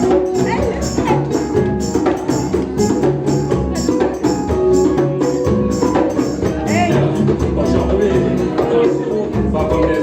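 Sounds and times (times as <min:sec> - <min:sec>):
live band instrumental music: 0:00.0 - 0:10.0
tambourine-like percussion: 0:00.0 - 0:10.0.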